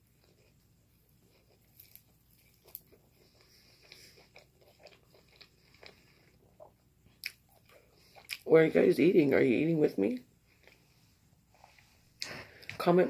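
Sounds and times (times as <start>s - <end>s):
chewing food: 0.0s - 8.5s, 10.4s - 12.8s.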